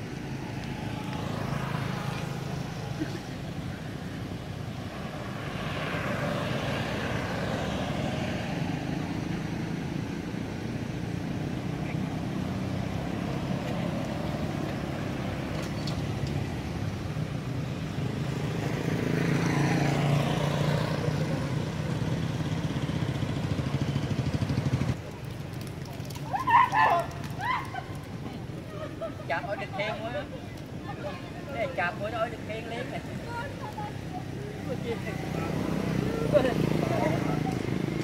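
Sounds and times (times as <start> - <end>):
steady traffic hum: 0.0 - 38.0
vehicles passing by: 0.0 - 38.0.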